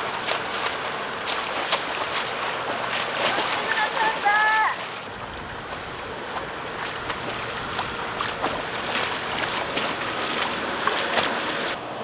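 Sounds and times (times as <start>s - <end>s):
water splashing from swimming: 0.0s - 11.8s.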